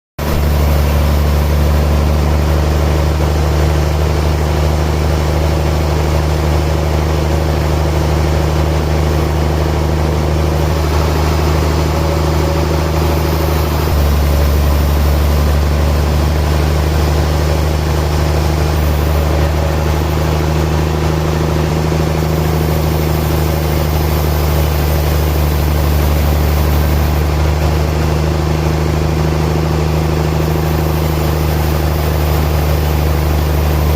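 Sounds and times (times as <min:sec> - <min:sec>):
sawmill machinery humming: 0:00.2 - 0:33.9.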